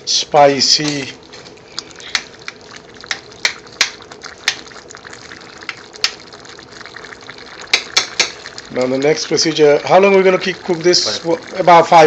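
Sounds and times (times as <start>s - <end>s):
gravy bubbling and hissing: 0.0s - 12.0s.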